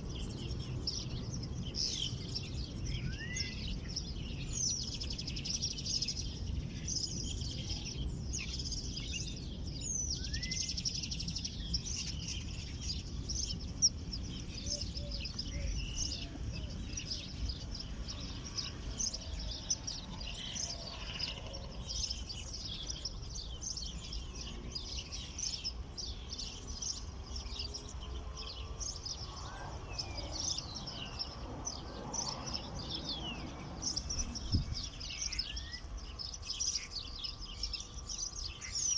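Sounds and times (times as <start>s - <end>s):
low background rumble: 0.0s - 38.7s
small birds chirping: 0.0s - 38.9s.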